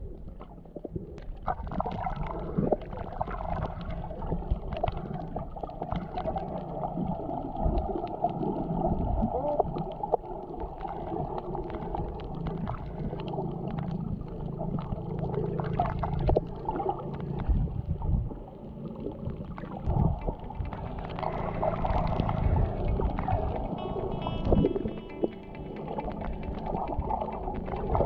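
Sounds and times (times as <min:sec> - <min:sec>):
small underwater clicks: 0:00.0 - 0:23.8, 0:24.4 - 0:28.0
underwater rush of water: 0:00.0 - 0:28.0.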